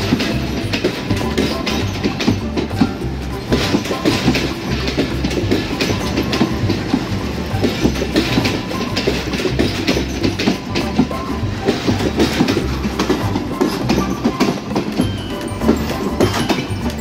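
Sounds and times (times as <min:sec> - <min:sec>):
train rumble: 0:00.0 - 0:17.0
train wheels clacking over rail joints: 0:00.0 - 0:17.0.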